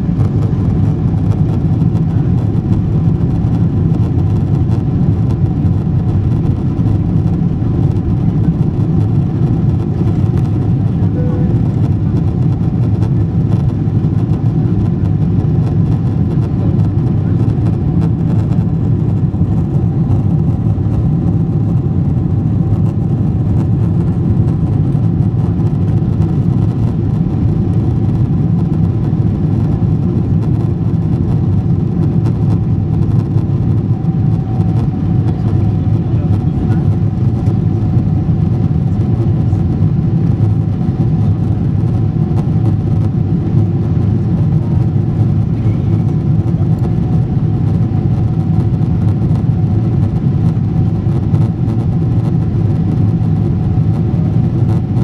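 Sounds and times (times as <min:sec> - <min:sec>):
faint steady whine: 0:00.0 - 0:55.0
jet engine rumble and rushing air: 0:00.0 - 0:55.0.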